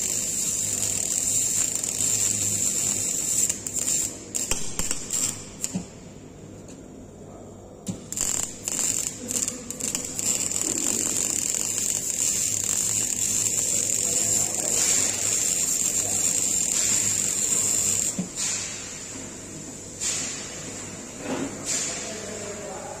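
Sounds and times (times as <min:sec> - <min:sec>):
welding arc strikes: 0:00.0 - 0:06.3, 0:07.9 - 0:19.2, 0:19.8 - 0:20.6
steady welding arc: 0:00.0 - 0:06.4, 0:07.9 - 0:23.0.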